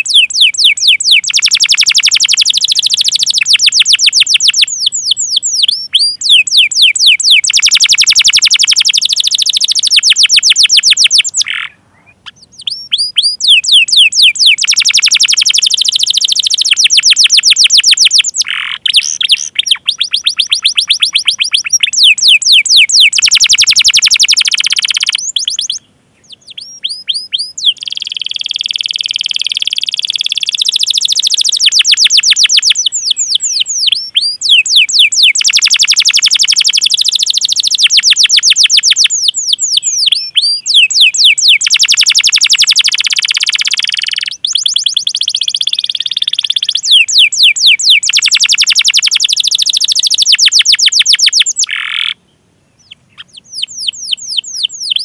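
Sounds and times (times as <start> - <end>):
canary singing chirps and trills: 0.0 - 55.0.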